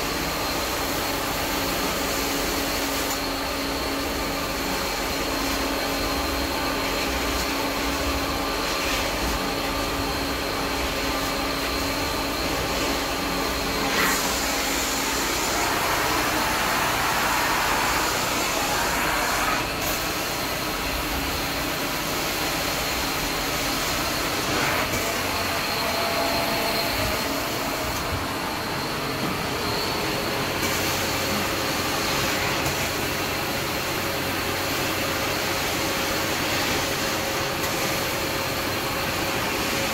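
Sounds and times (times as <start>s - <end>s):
carpet extraction machine running: 0.0s - 39.9s.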